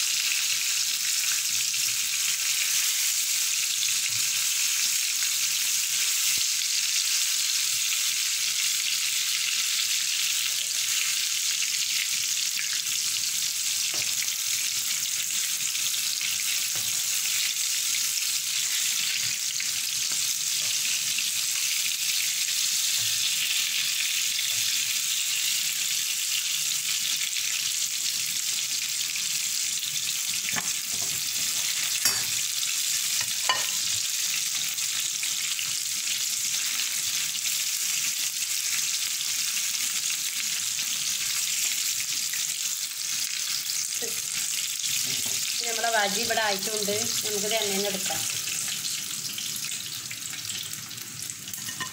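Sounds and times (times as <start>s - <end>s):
food deep-frying in hot oil: 0.0s - 51.9s.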